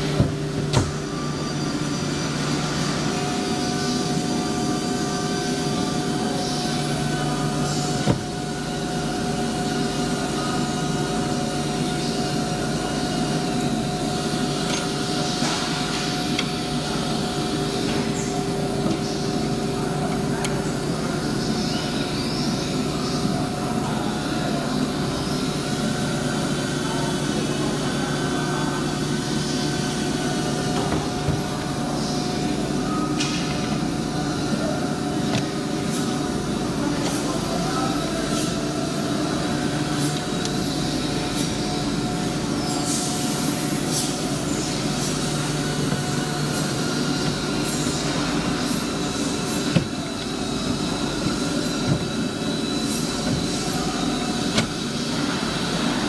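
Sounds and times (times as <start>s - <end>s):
woodworking machine humming: 0.0s - 56.0s.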